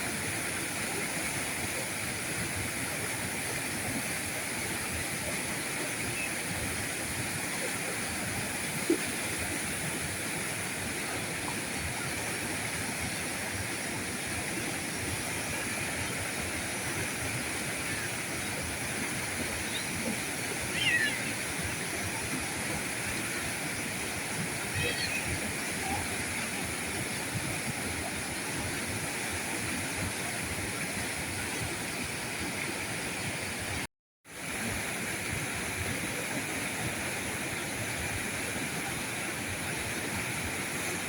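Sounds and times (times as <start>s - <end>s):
river water rushing: 0.0s - 33.8s, 34.4s - 41.0s.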